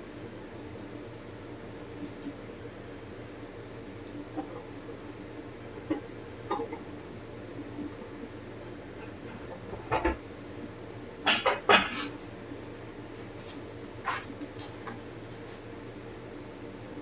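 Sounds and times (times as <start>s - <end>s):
heater humming: 0.0s - 17.0s.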